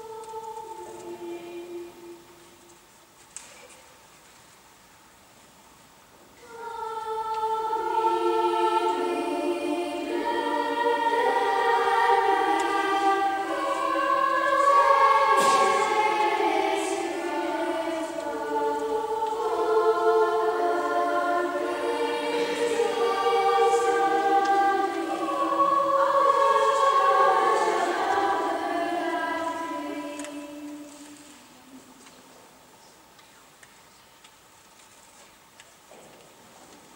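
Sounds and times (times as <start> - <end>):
girls' choir singing unaccompanied: 0.0 - 3.9, 6.3 - 32.7.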